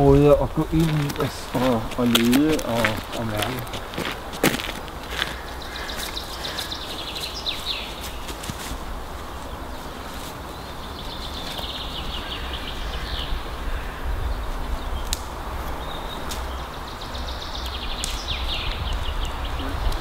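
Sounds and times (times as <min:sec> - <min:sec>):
steady low rumble: 0:00.0 - 0:17.0
songbirds singing trills: 0:00.0 - 0:20.0.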